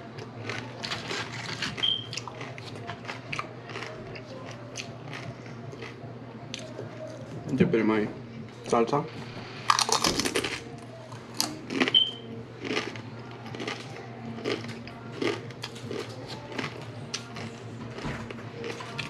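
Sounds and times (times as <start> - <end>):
chewing crunchy tortilla chip: 0.0 - 7.2, 9.7 - 19.0.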